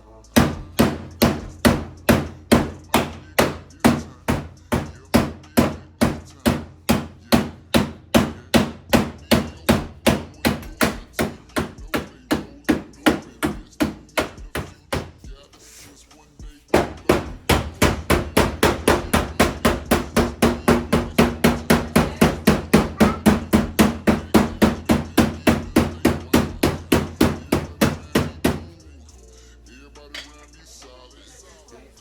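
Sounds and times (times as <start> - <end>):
hammer blows on metal: 0.4 - 15.2, 16.7 - 28.7.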